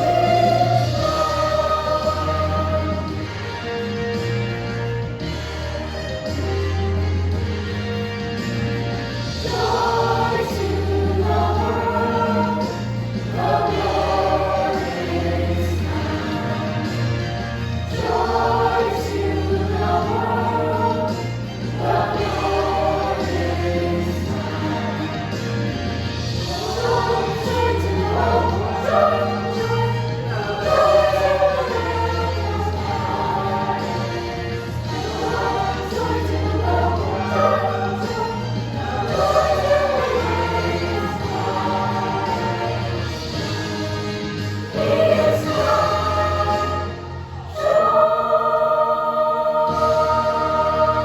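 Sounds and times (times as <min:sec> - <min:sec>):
school choir singing: 0:00.0 - 0:04.0, 0:09.3 - 0:51.0
instrumental accompaniment: 0:00.0 - 0:51.0.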